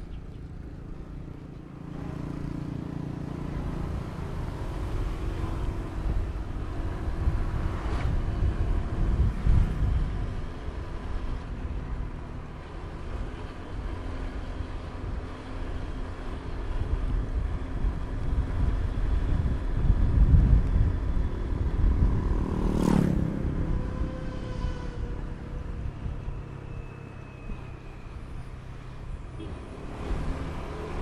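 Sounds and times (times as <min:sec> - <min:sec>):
wind and road noise: 0:00.0 - 0:31.0.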